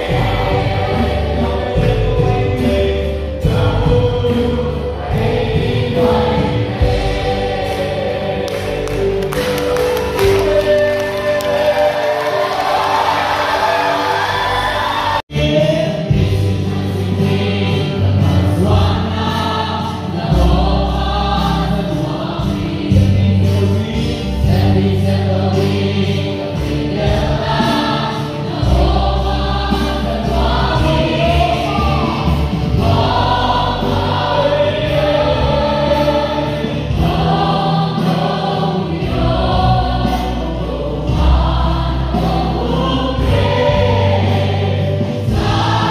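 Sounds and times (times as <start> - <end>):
band accompaniment with bass: 0.0 - 45.9
group singing a worship song: 0.0 - 45.9.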